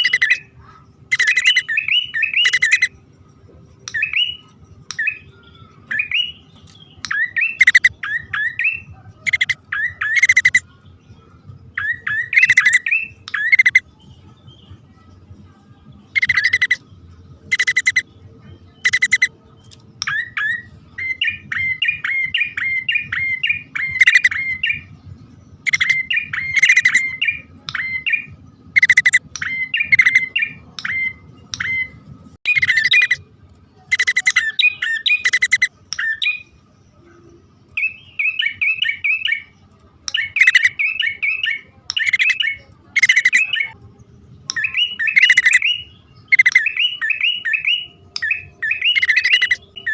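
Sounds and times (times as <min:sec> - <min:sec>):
bird calls with harsh chips: 0:00.0 - 0:15.1, 0:16.0 - 0:43.8, 0:44.4 - 0:49.9
chattering bird notes: 0:00.0 - 0:49.9.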